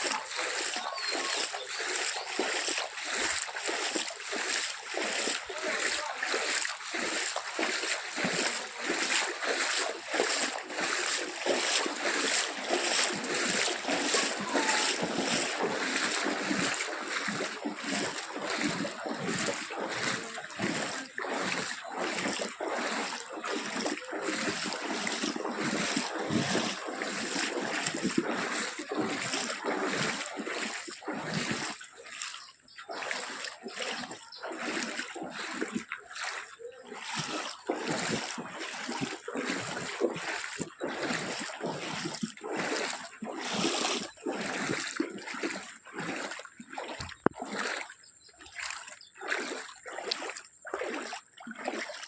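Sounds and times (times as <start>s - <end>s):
water splashing and sloshing: 0.0s - 52.0s.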